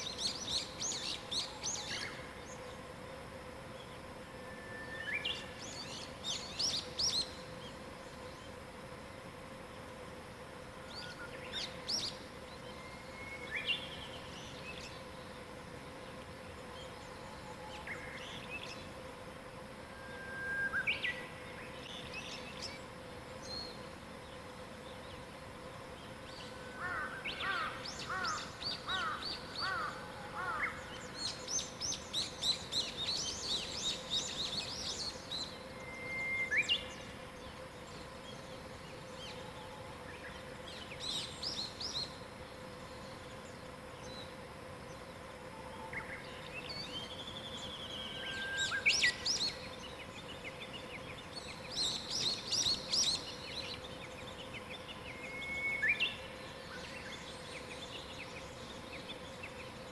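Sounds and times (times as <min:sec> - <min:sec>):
wild birds singing: 0:00.0 - 0:09.6, 0:10.8 - 0:59.9
faint steady hum: 0:00.0 - 0:59.9.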